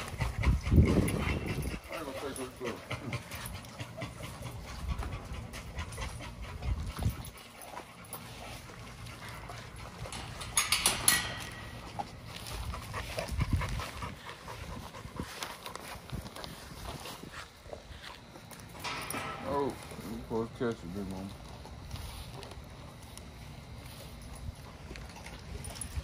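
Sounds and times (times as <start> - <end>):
dogs chewing raw chicken: 0.0 - 10.4, 11.6 - 18.9, 19.8 - 26.0
dogs panting: 0.0 - 26.0.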